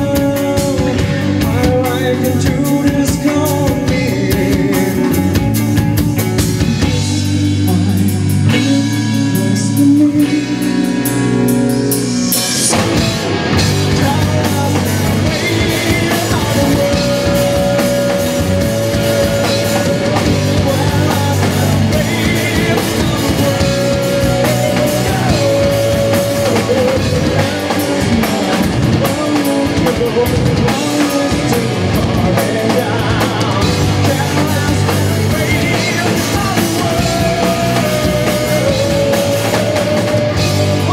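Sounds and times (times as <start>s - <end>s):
person singing: 0.0s - 11.6s, 12.3s - 40.9s
drum kit: 0.0s - 40.9s
live rock band playing: 0.0s - 40.9s.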